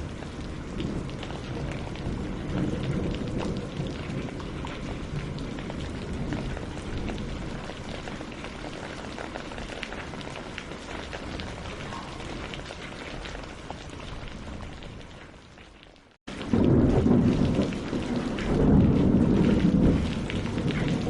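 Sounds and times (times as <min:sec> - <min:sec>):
rain on leaves and water: 0:00.0 - 0:21.0.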